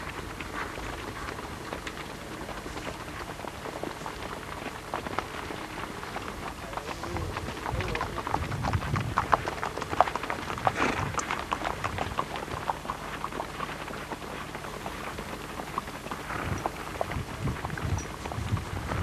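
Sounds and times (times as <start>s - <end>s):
horse hoofbeats: 0.0s - 19.0s.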